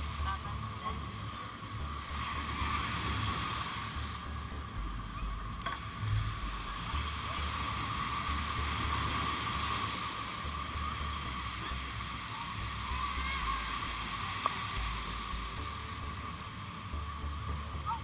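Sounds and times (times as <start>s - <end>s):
ocean waves breaking: 0.0s - 18.0s
steady high whine: 0.0s - 18.0s
wind rumbling on microphone: 0.0s - 18.0s.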